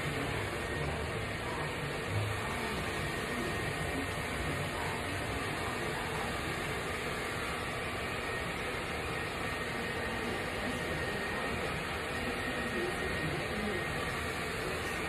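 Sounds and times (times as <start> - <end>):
hair dryer blowing air: 0.0 - 15.0.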